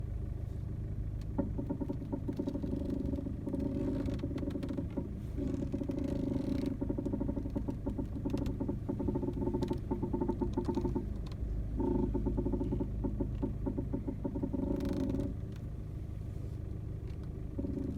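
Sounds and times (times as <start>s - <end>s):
diesel engine idling: 0.0s - 17.9s
steering creaking and knocking: 1.1s - 17.9s.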